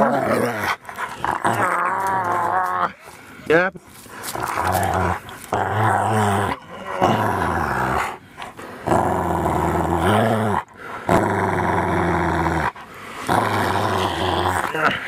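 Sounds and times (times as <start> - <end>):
dog growling: 0.0 - 3.1, 4.1 - 15.0.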